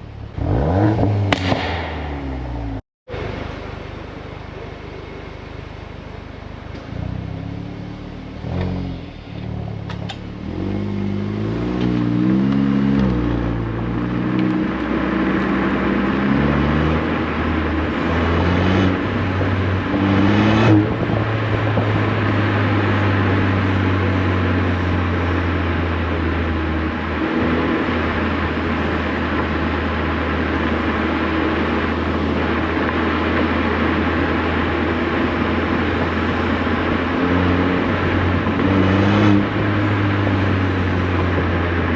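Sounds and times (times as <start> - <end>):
car engine revving: 0.0 - 41.9
exhaust crack: 0.0 - 41.9.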